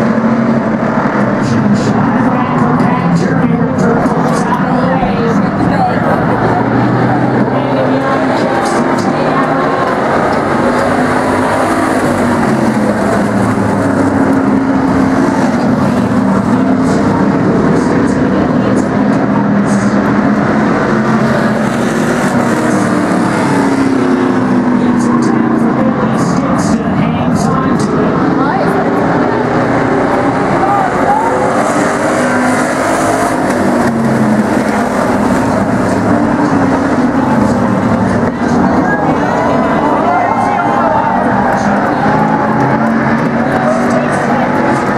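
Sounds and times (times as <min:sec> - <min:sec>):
many truck engines racing: 0:00.0 - 0:44.9.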